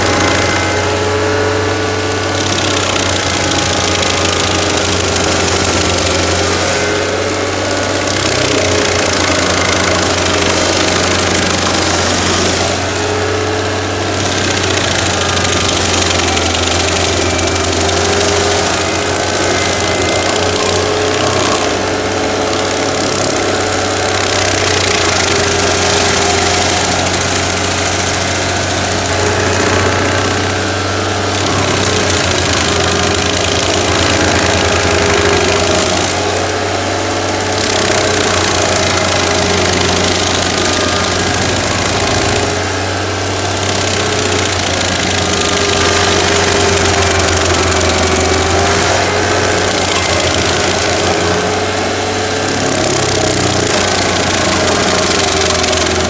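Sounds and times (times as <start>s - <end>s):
cutting wheel grinding wood: 0.0s - 56.0s
stump grinder engine drone: 0.0s - 56.0s.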